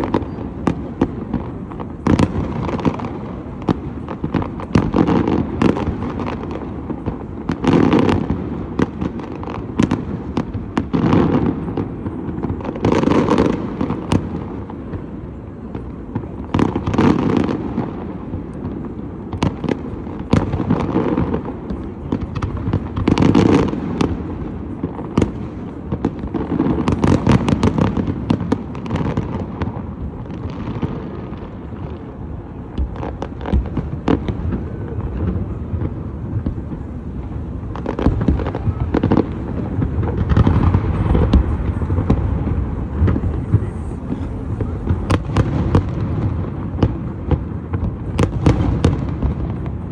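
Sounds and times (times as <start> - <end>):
firework booms: 0.0 - 49.9
firework crackle: 0.0 - 49.9.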